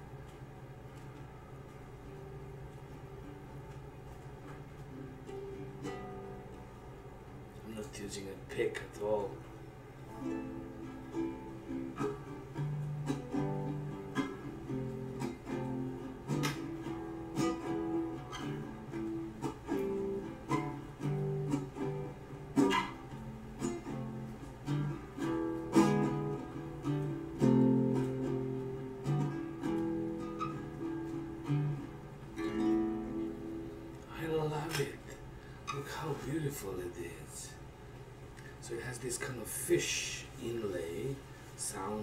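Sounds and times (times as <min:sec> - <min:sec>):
plucked guitalele chords and notes: 0:00.0 - 0:07.6, 0:09.4 - 0:35.7
strummed guitalele chords: 0:00.0 - 0:07.7, 0:08.4 - 0:37.2.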